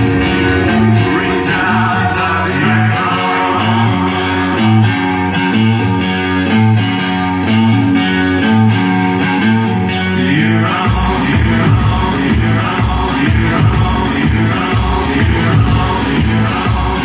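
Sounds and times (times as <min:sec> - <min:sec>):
deep bass: 0:00.0 - 0:17.0
song with steady beat: 0:00.0 - 0:17.0.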